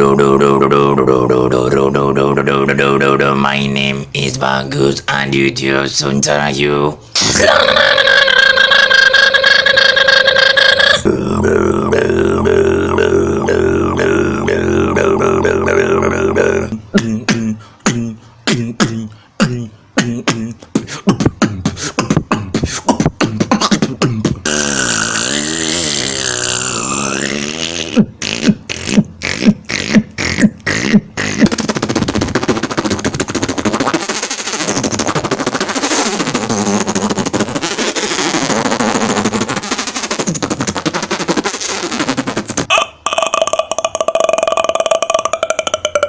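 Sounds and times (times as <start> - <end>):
wavering pitched mouth tone: 0.0 - 3.6, 6.4 - 46.0
mouth rushing noise: 0.0 - 16.8, 20.0 - 46.0
beatboxing clicks and pops: 9.1 - 46.0.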